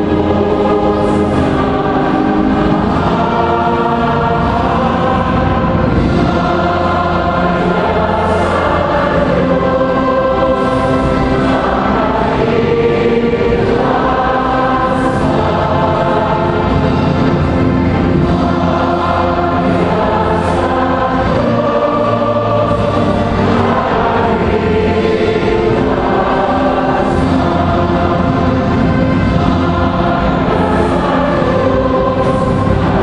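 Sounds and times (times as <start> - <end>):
church choir singing: 0.0 - 33.0.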